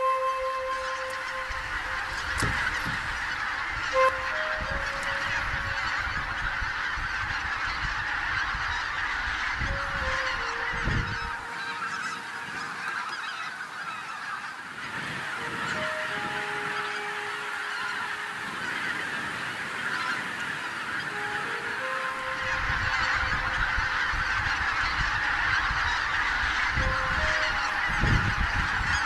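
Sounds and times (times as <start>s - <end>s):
geese honking: 0.0s - 29.0s.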